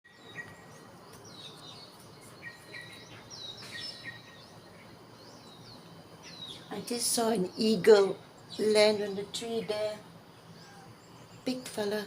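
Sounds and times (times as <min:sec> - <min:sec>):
birds chirping and whistling: 0:00.1 - 0:08.8, 0:09.6 - 0:11.6
background hiss: 0:00.1 - 0:12.0.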